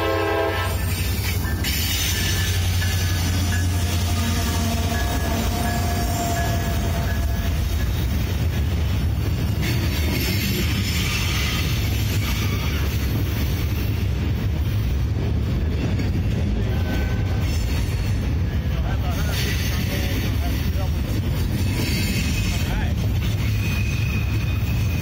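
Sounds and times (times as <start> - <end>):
freight train passing: 0.0 - 25.0
steel wheels rumbling on rails: 0.0 - 25.0.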